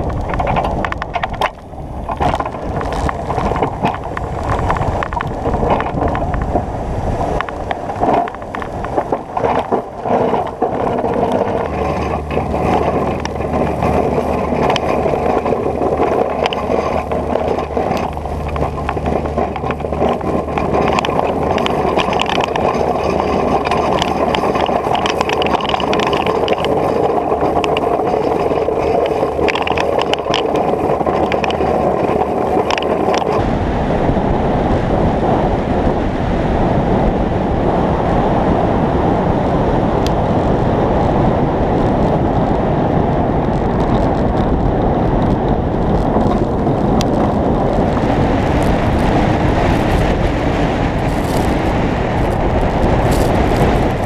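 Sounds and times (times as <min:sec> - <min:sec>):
crackling and clicking: 0:00.0 - 0:33.5, 0:43.4 - 0:54.0
vehicle engine running: 0:00.0 - 0:34.4, 0:43.6 - 0:54.0
wind buffeting microphone: 0:00.0 - 0:54.0.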